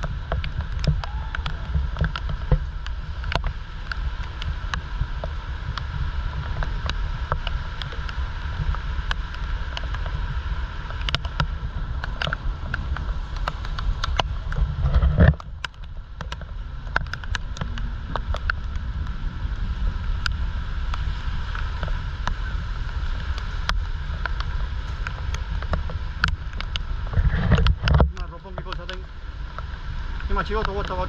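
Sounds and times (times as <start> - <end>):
raindrops ticking on camera: 0.0 - 31.0
wind buffeting microphone: 0.0 - 31.0.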